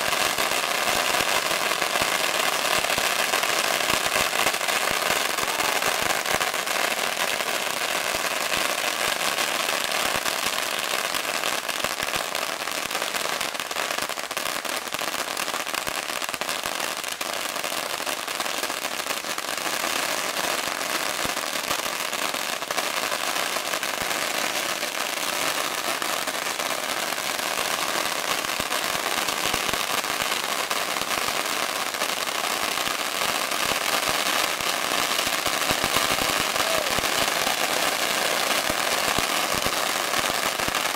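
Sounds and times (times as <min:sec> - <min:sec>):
firecrackers crackling: 0:00.0 - 0:40.9.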